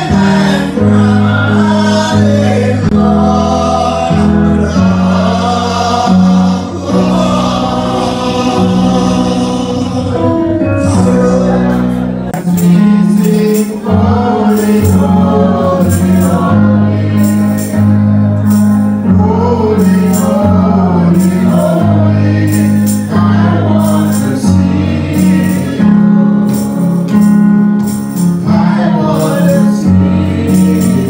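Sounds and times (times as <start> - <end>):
bass notes: 0.0 - 31.0
voices singing gospel: 0.0 - 31.0.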